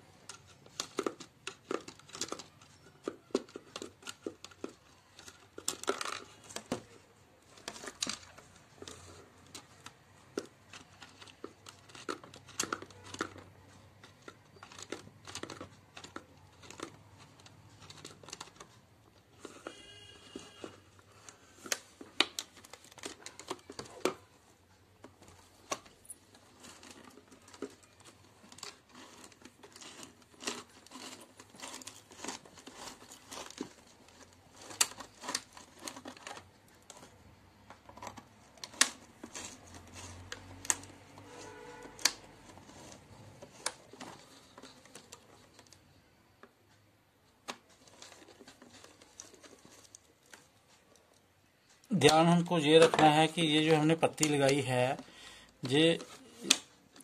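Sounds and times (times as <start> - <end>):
plastic jar crinkling: 0.0 - 46.6, 47.2 - 57.0
metal clicking on plastic: 0.2 - 45.8.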